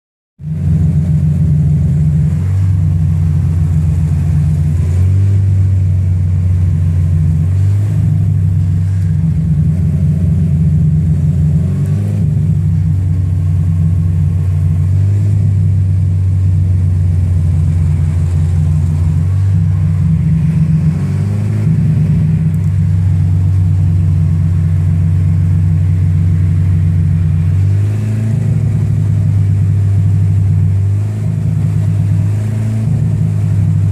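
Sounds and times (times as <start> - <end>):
car engine running: 0.4 - 33.9.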